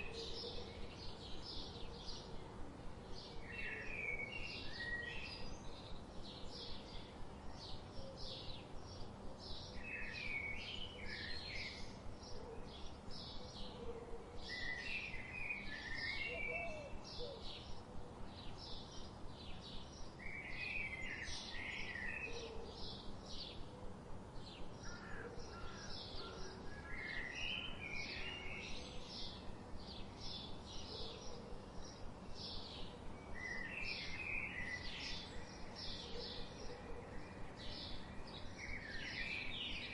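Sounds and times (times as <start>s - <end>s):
faint ambient hiss: 0.0s - 39.9s.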